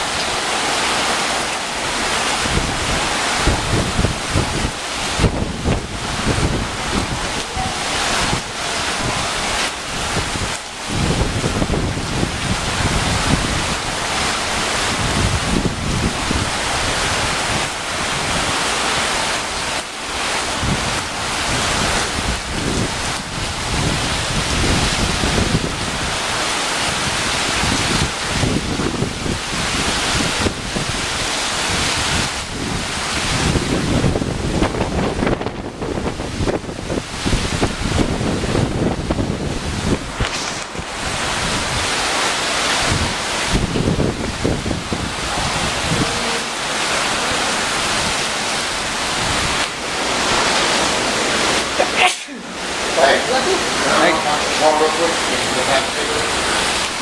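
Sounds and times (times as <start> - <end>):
wind gusts buffeting microphone: 0.0 - 57.0.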